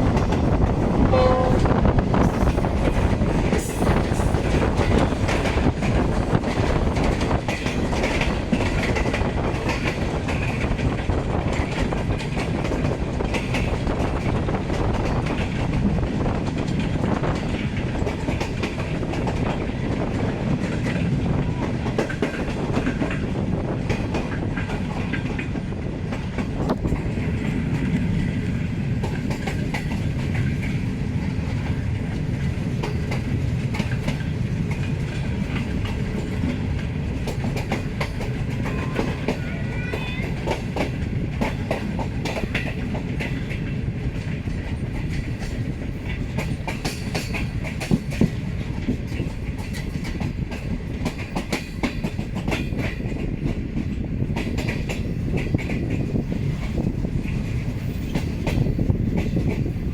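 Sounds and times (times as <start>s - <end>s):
train wheels clacking on rails: 0.0s - 59.9s.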